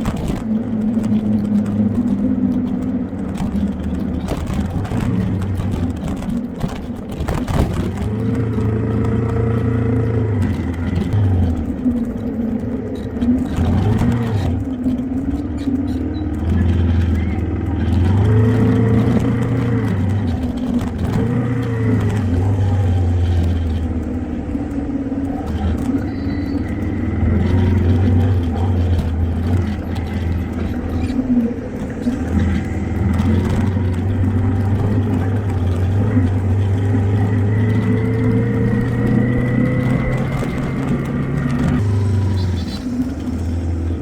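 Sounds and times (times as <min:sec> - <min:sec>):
vehicle engine running: 0:00.0 - 0:44.0.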